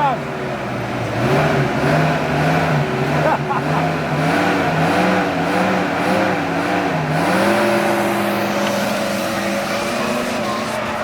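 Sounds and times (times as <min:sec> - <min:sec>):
engine working under load: 0:00.0 - 0:11.0.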